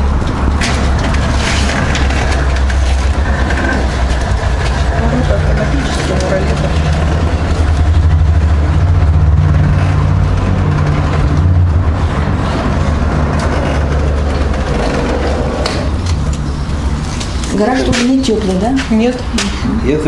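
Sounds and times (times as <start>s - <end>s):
roller shutter motor humming: 0.0s - 19.6s.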